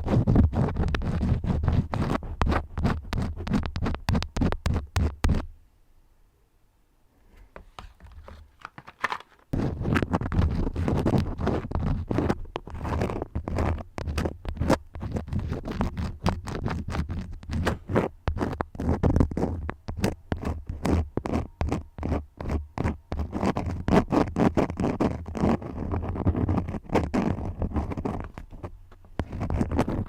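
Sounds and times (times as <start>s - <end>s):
crayons scribbling: 0.0s - 5.5s, 9.6s - 30.0s.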